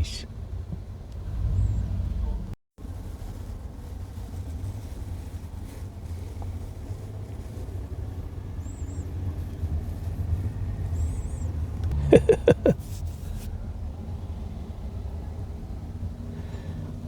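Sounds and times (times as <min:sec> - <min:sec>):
rumble of vehicles: 0:00.0 - 0:17.0.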